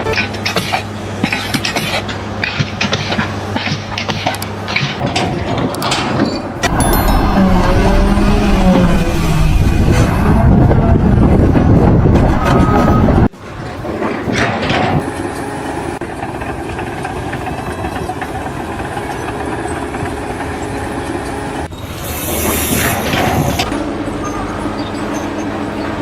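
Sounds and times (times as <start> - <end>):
machine engines running: 0.0 - 26.0.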